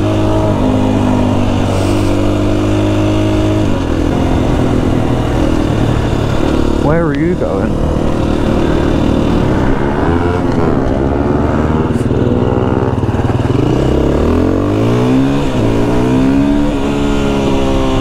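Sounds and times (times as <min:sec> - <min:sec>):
motorcycle revving: 0:00.0 - 0:18.0.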